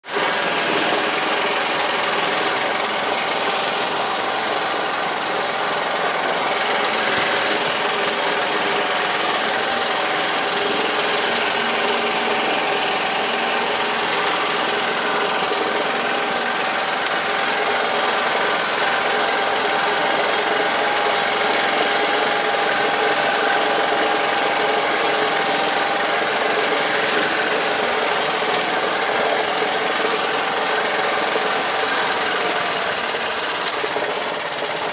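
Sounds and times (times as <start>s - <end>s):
vehicle engine running with whine: 0.0s - 34.9s.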